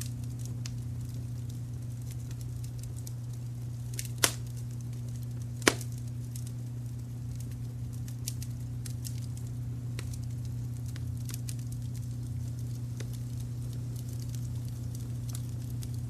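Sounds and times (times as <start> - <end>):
sharp pops and ticks: 0.0 - 6.5, 7.3 - 16.0
wood fire crackling: 0.0 - 16.0.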